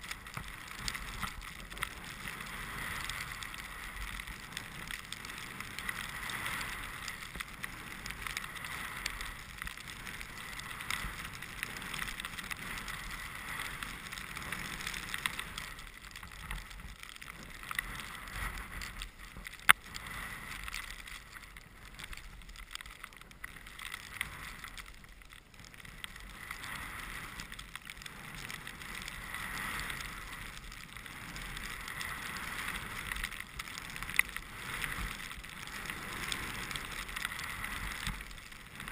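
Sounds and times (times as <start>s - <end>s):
skis hissing through snow: 0.0s - 21.9s, 24.0s - 24.7s, 26.2s - 38.9s
wind rumble on microphone: 0.0s - 38.9s.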